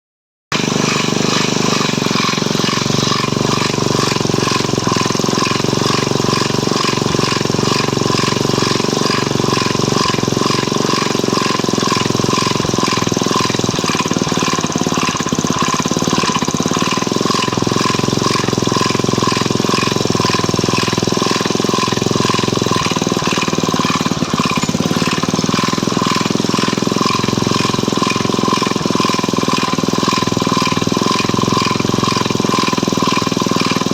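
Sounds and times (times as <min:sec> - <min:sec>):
engine knocking: 0:00.5 - 0:33.9
snowmobile engine idling: 0:00.6 - 0:33.9.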